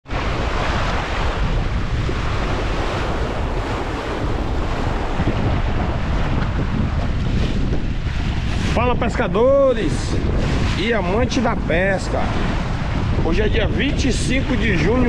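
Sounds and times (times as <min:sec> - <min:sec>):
choppy waves: 0:00.0 - 0:15.0
wind buffeting microphone: 0:00.0 - 0:15.0.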